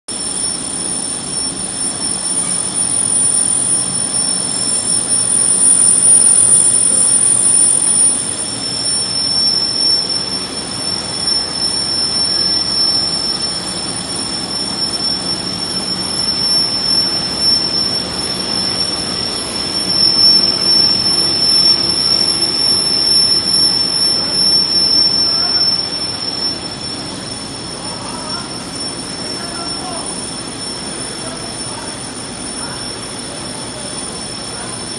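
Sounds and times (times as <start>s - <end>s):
high-pitched machine whines: 0.1s - 34.9s
printing machine running: 0.2s - 34.9s.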